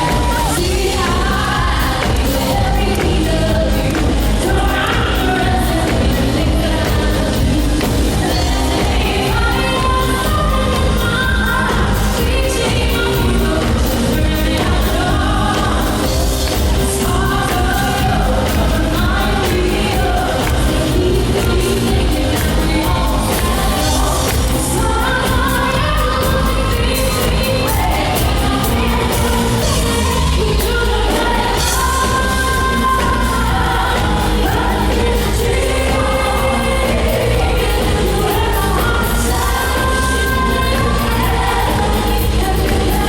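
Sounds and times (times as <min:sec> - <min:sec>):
band with heavy bass and drums: 0:00.0 - 0:43.0
woman singing: 0:00.0 - 0:43.0.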